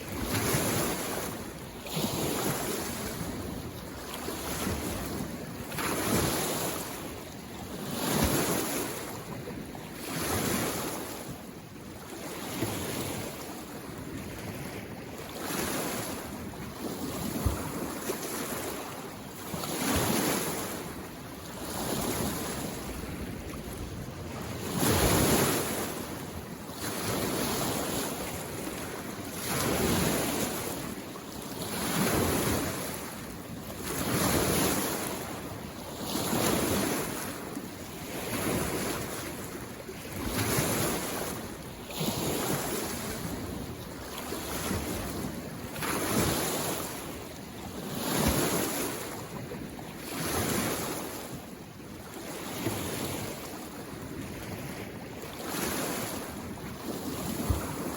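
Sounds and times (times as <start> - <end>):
small waves lapping on shore: 0.0 - 57.9.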